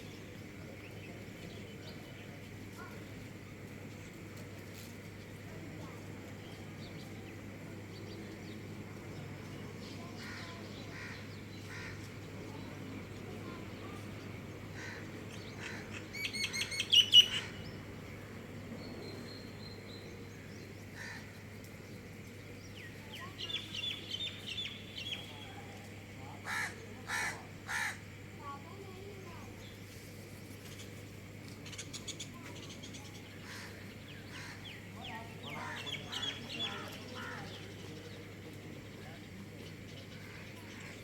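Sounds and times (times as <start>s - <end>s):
wild birds chirping: 5.8s - 41.0s.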